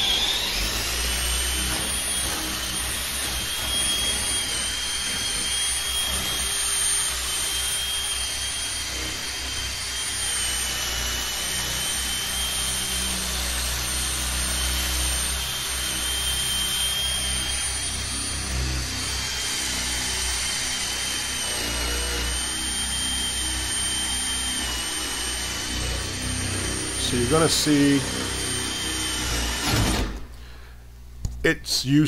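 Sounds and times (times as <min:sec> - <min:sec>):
hole saw grinding through wood: 0:00.0 - 0:30.2
cordless drill motor whining: 0:00.0 - 0:30.9.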